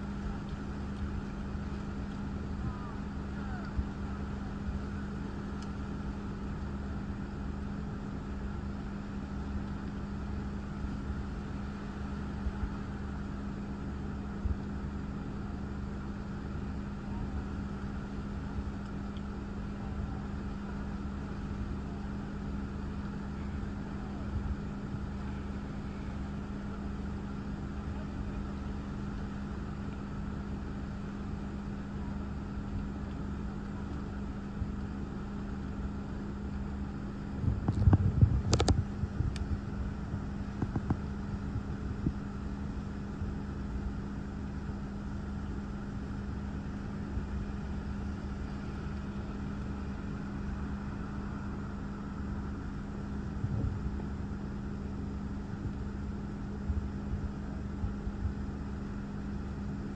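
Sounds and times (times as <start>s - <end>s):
car engine idling: 0.0s - 59.9s
low wavering rumble: 0.0s - 59.9s.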